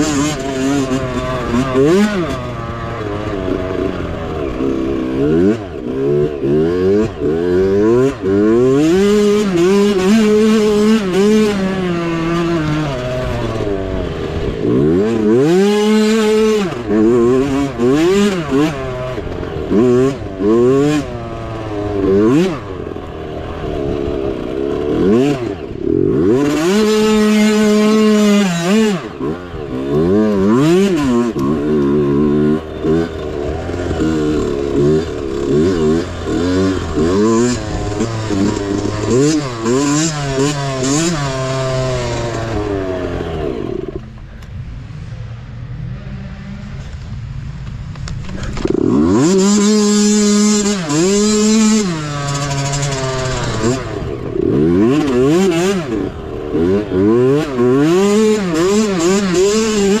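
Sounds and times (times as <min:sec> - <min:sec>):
mini bike engine revving: 0:00.0 - 1:00.0.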